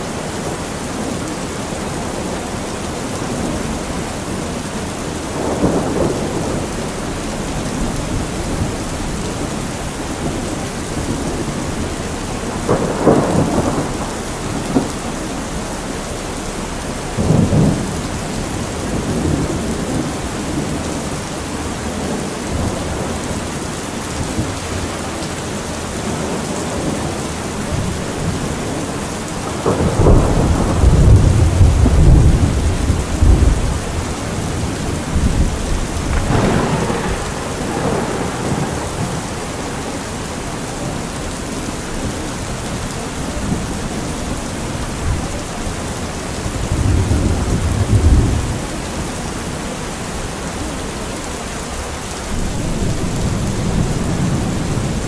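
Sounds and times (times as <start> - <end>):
steady rain: 0.0 - 55.0
rolling thunder: 1.9 - 50.4, 52.2 - 55.0.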